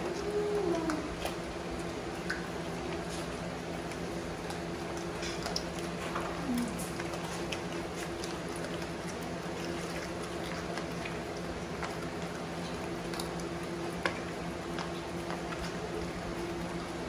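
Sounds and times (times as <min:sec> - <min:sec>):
dog chewing wet crunching: 0:00.0 - 0:17.0.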